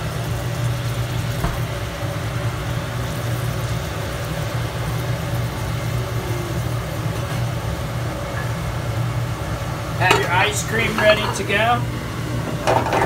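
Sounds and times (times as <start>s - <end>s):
gas range and ventilation hum: 0.0s - 13.0s.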